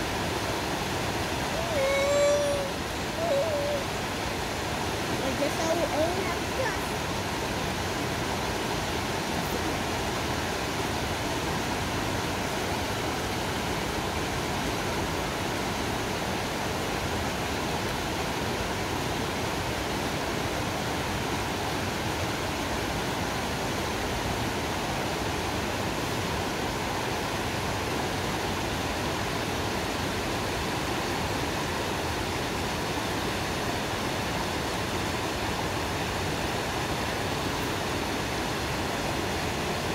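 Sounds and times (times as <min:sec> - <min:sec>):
creek water rushing over boulders: 0:00.0 - 0:39.9.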